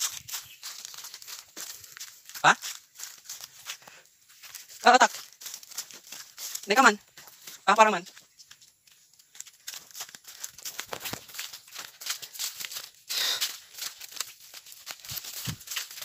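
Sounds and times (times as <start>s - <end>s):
footsteps through leafy undergrowth: 0.0s - 16.0s.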